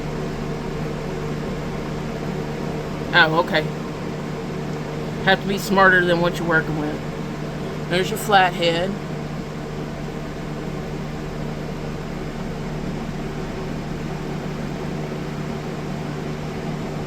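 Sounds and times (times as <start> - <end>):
appliance hum with hiss: 0.0 - 17.0.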